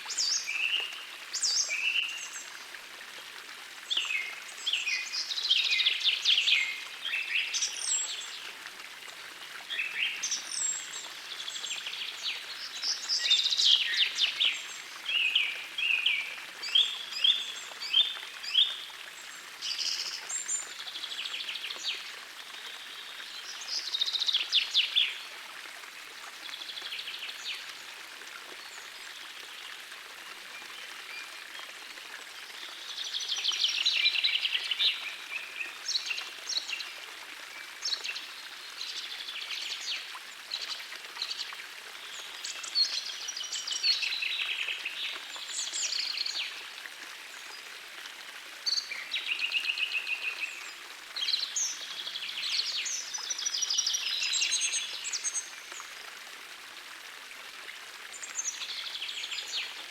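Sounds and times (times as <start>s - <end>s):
forest stream rushing: 0.0s - 59.9s.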